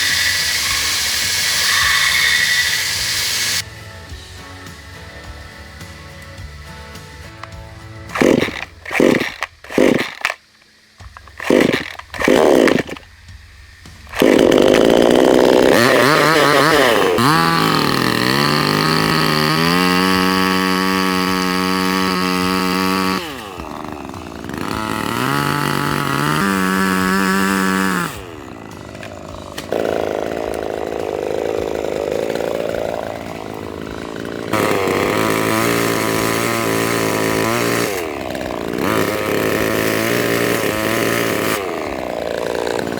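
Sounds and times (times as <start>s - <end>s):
power tool motor running: 0.0s - 3.7s, 8.1s - 13.1s, 13.8s - 42.9s.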